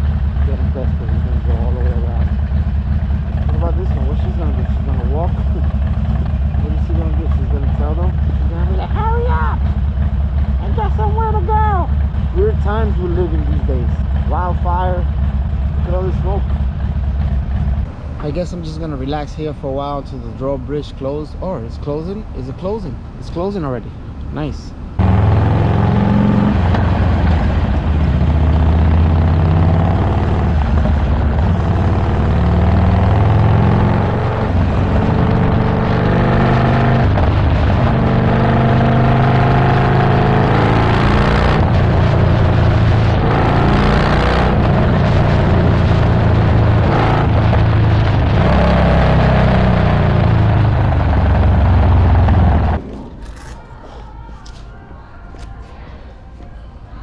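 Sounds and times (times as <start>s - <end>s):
motorcycle engine running hard: 0.0s - 18.4s, 25.0s - 53.2s.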